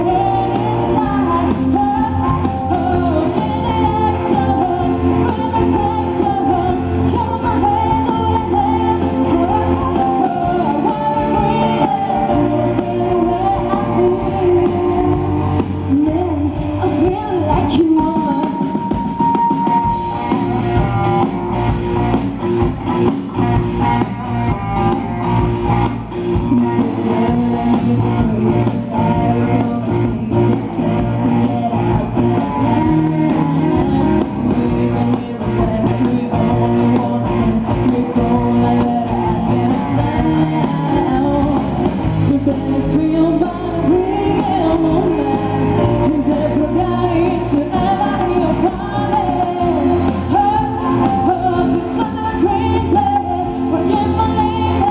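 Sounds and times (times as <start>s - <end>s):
pop-rock music with singer: 0.0s - 54.9s.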